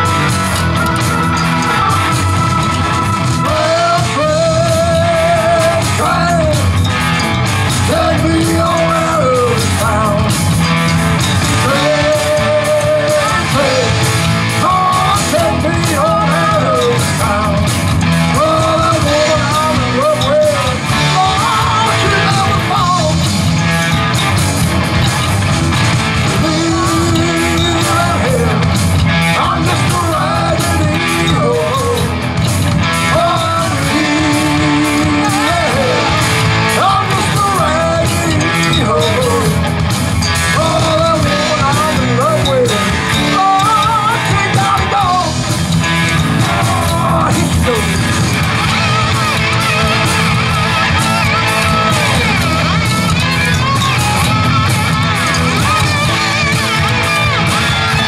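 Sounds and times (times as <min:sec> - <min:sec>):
lead vocal singing: 0:00.0 - 0:58.0
live rock band playing: 0:00.0 - 0:58.0.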